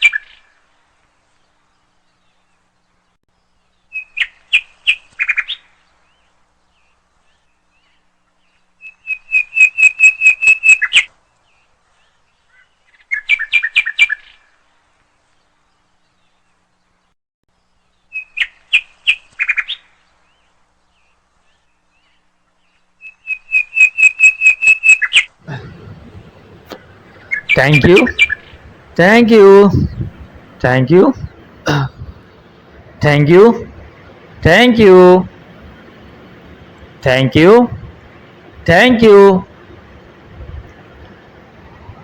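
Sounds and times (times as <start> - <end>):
bird chirping: 1.4 - 14.6, 17.6 - 39.3.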